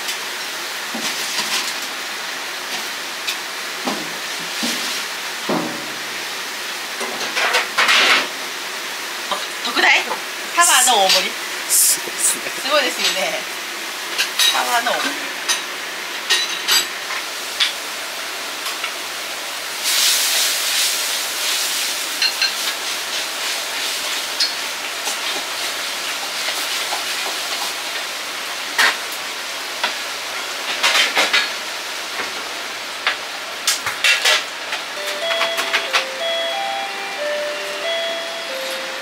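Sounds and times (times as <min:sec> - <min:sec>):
frying and gas burner hiss: 0:00.0 - 0:39.0.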